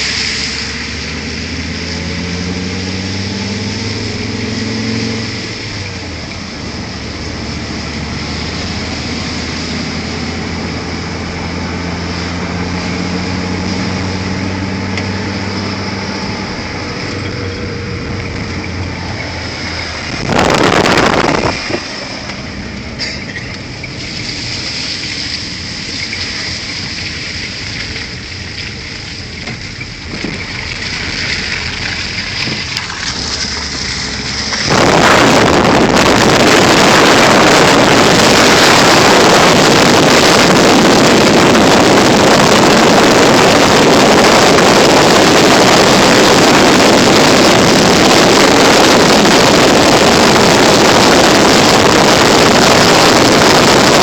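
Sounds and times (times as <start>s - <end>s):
wind noise on microphone: 0.0s - 22.6s, 23.7s - 54.0s
vehicle engine running: 0.0s - 54.0s.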